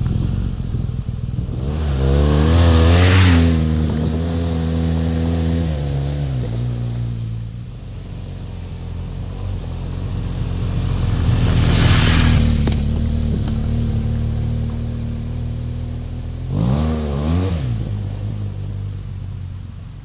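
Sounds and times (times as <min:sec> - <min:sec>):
motorcycle riding past: 0:00.0 - 0:19.1.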